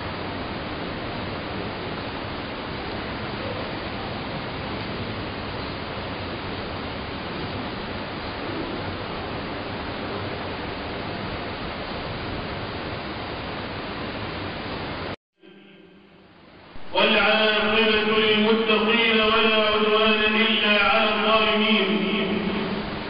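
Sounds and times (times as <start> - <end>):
steady static hiss: 0.0 - 23.0.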